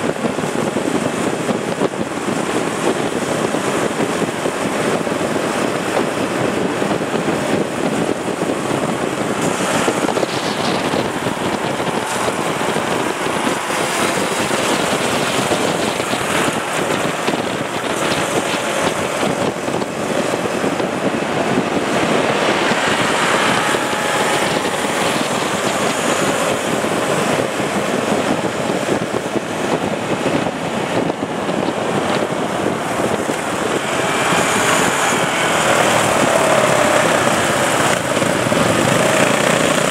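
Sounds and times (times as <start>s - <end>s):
motorcycle engines running: 0.0s - 39.9s
wind buffeting microphone: 0.0s - 39.9s.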